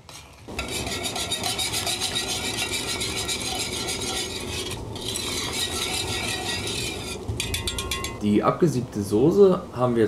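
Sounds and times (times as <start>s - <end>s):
metal whisk scraping a pot: 0.0s - 8.2s.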